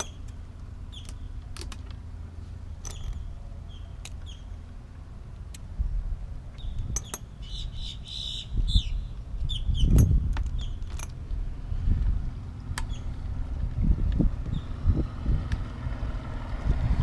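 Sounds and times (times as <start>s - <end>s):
wind rumbling on microphone: 2.8s - 17.0s.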